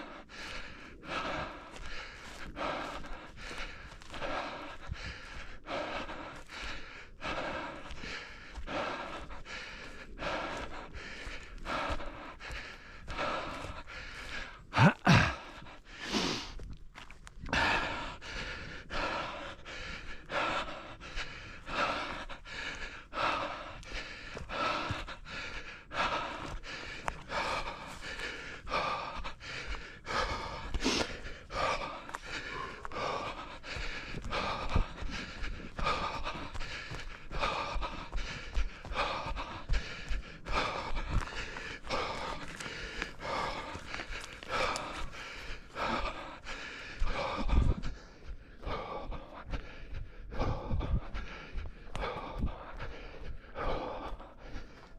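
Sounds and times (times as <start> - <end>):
runner breathing heavily: 0.0 - 54.9.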